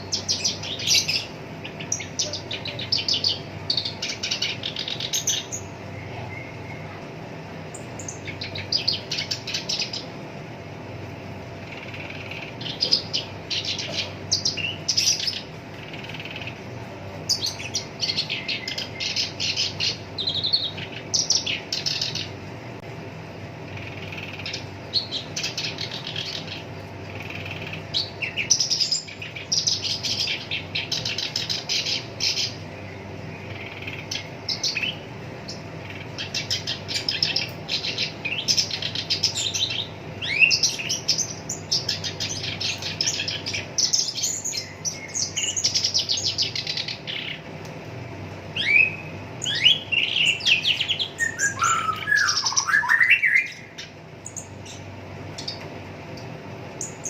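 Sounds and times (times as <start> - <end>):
warbler singing chattering trills: 0.0 - 57.0.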